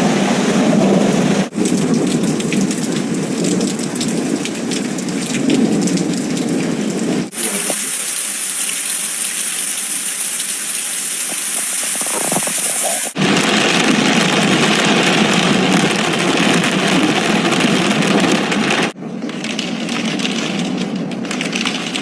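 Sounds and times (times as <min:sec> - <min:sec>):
wind and rain rushing: 0:00.0 - 0:07.9, 0:11.2 - 0:22.0
hail pelting hard surfaces: 0:00.1 - 0:08.2, 0:11.4 - 0:22.0.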